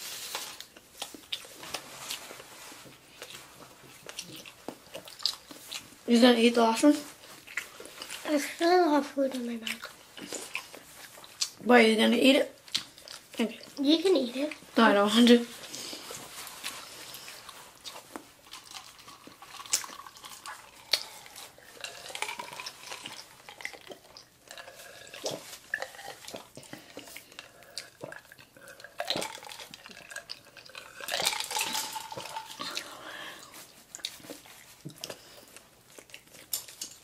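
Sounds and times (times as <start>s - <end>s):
chewing and mouth clicks: 0.6s - 6.0s, 7.0s - 8.6s, 9.3s - 11.6s, 12.6s - 13.8s, 15.6s - 37.0s.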